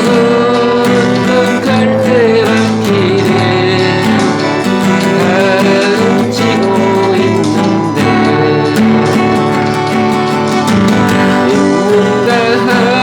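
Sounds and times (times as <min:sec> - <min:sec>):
band accompaniment with steady beat: 0:00.0 - 0:13.0
guitar ballad melody: 0:00.0 - 0:13.0.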